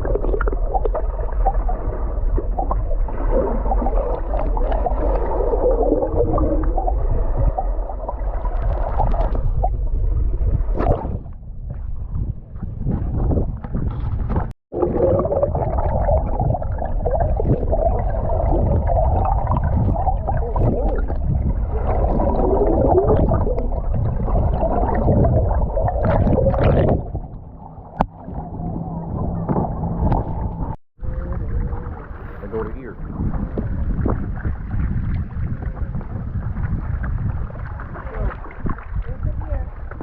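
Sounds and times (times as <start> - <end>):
loud low rumble: 0.0 - 40.0
paddle and water noise: 0.0 - 40.0.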